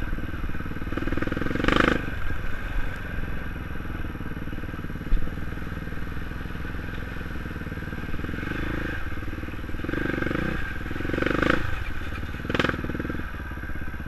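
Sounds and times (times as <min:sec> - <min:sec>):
dirt bike engine revving: 0:00.0 - 0:03.3, 0:04.4 - 0:13.4.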